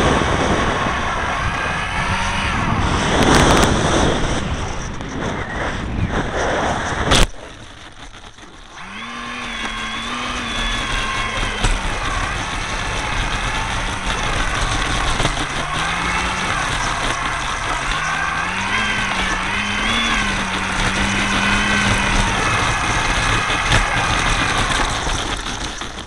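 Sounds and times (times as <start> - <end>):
model airplane motor: 0.0 - 26.0
rushing wind: 0.0 - 26.0.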